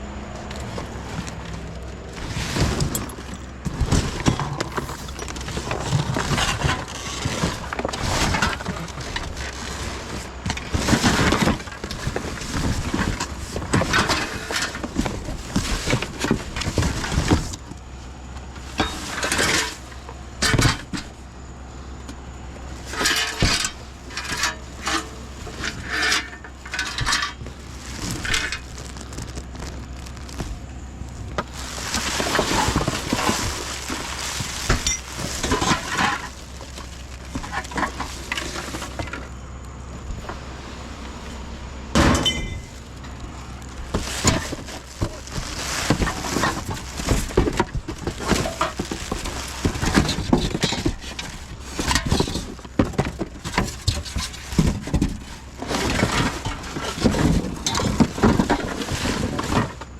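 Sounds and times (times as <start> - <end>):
steady low hum: 0.0 - 59.8
metal and glass items clanking: 0.6 - 17.6, 18.6 - 21.1, 22.8 - 30.4, 31.2 - 39.4, 42.0 - 43.2, 43.8 - 59.9.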